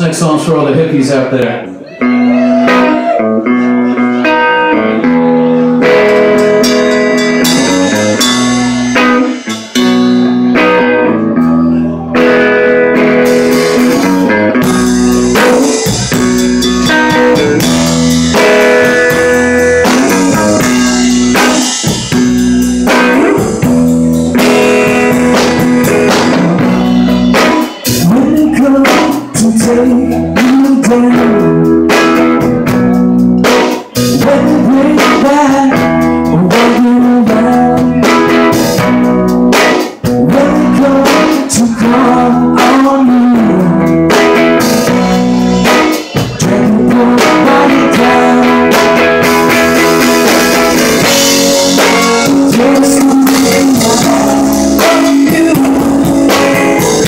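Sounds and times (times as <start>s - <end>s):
electric guitar: 1.3s - 57.0s
drum kit: 2.1s - 57.0s.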